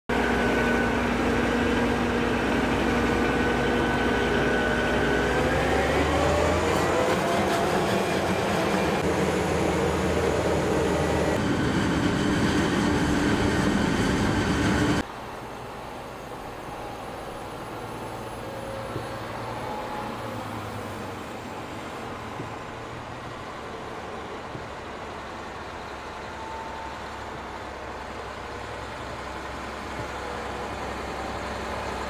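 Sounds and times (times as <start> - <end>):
harvester engine drone with whine: 0.1 - 32.0.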